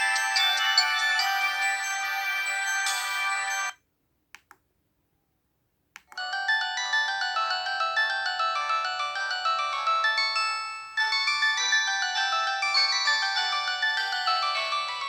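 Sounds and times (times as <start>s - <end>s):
polyphonic ringtone melody: 0.0s - 3.8s, 6.2s - 15.0s.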